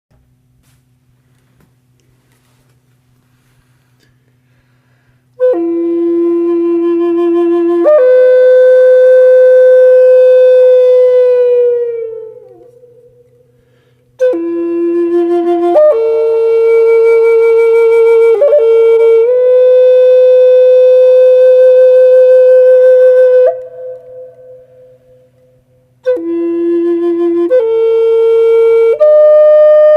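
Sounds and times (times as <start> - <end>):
slow flute melody: 5.4 - 29.9.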